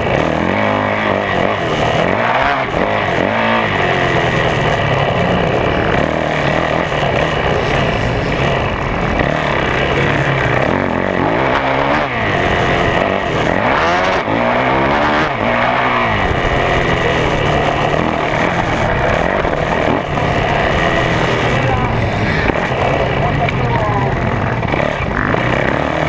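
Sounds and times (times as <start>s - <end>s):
motocross engine revving: 0.0s - 26.0s.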